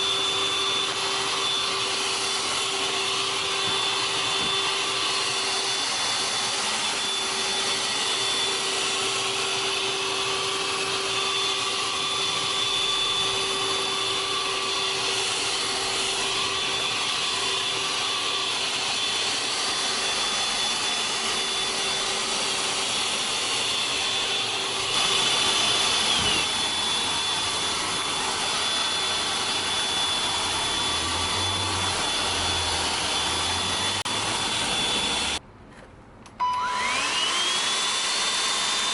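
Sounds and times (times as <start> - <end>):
handheld vacuum cleaner whining: 0.0 - 35.4, 36.4 - 38.9.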